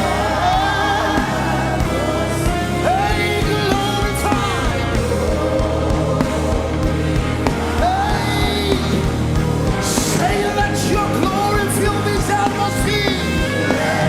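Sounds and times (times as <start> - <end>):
drums: 0.0 - 14.0
gospel band playing: 0.0 - 14.0
people singing: 0.0 - 14.0.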